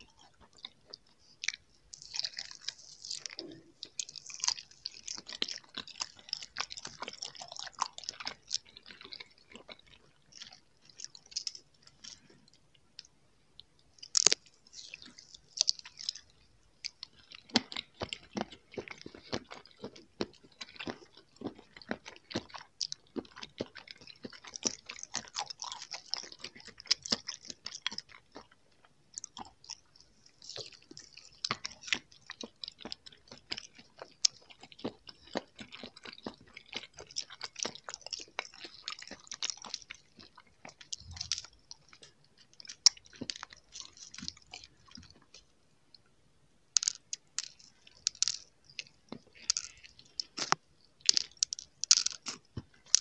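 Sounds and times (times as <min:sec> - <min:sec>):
crunchy bites into sugary gummy: 0:00.0 - 0:12.3, 0:14.0 - 0:16.3, 0:16.9 - 0:28.6, 0:30.4 - 0:45.3, 0:46.8 - 0:53.0
chewing gummy candies: 0:00.0 - 0:46.1, 0:46.7 - 0:53.0.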